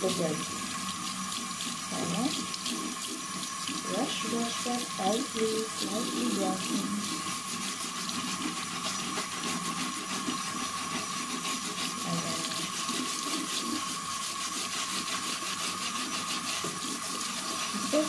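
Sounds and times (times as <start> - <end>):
brush scrubbing wet shoe: 0.0 - 18.0
tap running: 0.0 - 18.0
water splashing into sink: 0.0 - 18.0.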